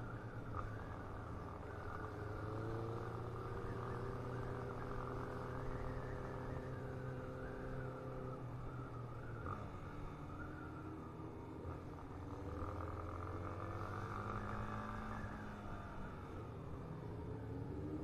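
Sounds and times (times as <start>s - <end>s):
muffled motorcycle engine running: 0.0s - 18.0s.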